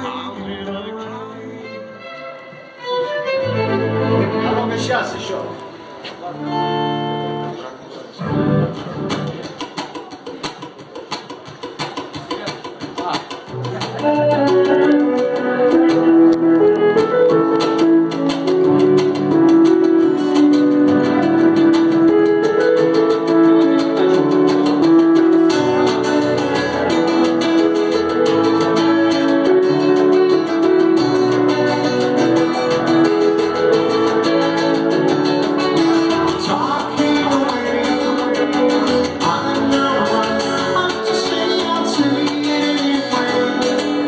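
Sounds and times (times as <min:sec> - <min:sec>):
guitar melody: 0:00.0 - 0:10.4, 0:13.3 - 0:44.0.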